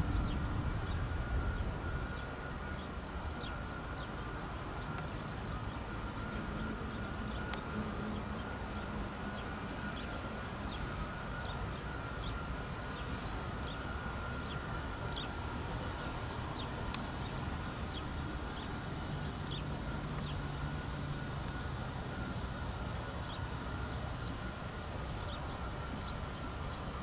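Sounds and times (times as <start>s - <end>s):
distant jet engines idling: 0.0s - 27.0s.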